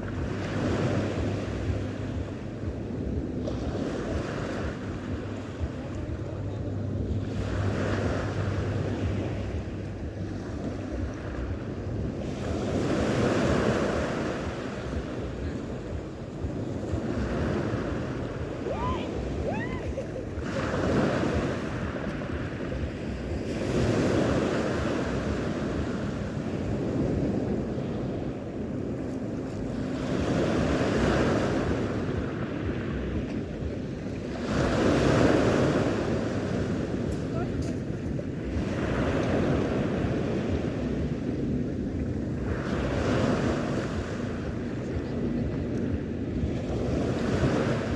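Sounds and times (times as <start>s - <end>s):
surf washing onto shore: 0.0s - 47.9s
wind on microphone: 0.0s - 47.9s.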